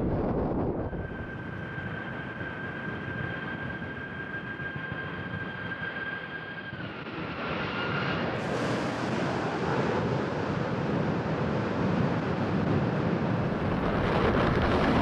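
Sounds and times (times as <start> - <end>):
jet engine roar: 0.0 - 15.0
jet engine whine: 0.0 - 15.0.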